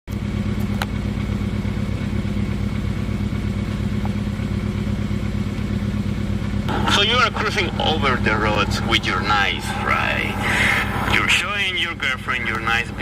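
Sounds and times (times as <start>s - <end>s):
car engine misfiring: 0.2s - 13.0s.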